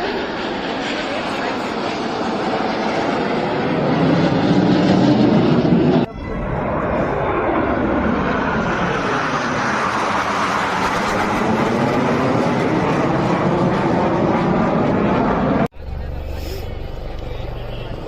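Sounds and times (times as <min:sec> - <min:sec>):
jet aircraft flying past: 0:00.0 - 0:18.0.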